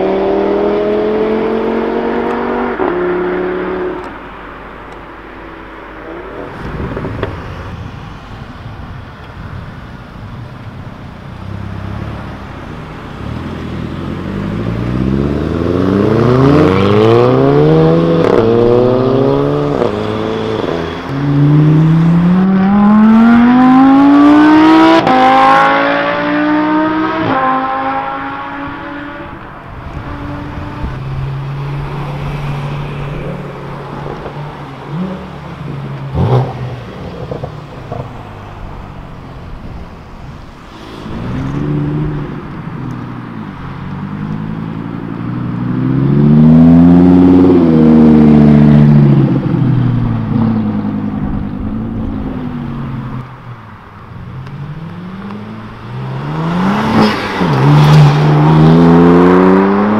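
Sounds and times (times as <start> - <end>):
car engines accelerating hard: 0.0 - 59.9.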